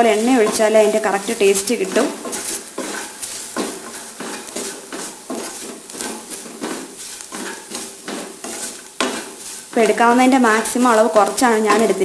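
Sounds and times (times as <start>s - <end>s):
oil sizzling: 0.0s - 12.0s
spatula scraping pan: 0.0s - 12.0s.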